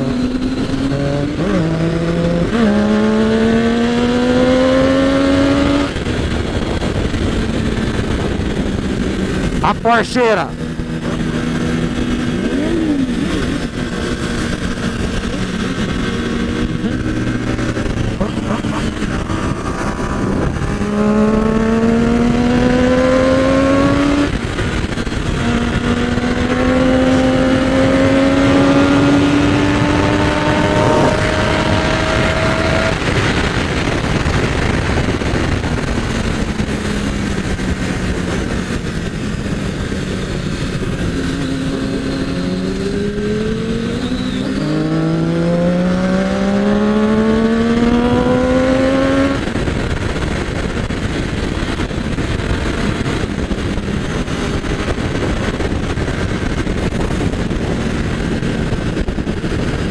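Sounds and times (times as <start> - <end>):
wind rush on microphone: 0.0 - 9.7, 10.5 - 59.9
motorcycle engine revving: 0.0 - 9.8, 10.4 - 59.9.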